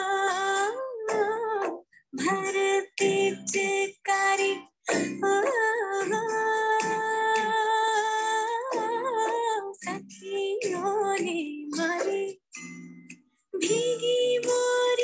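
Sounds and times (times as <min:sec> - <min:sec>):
woman singing: 0:00.0 - 0:12.6, 0:13.6 - 0:15.0.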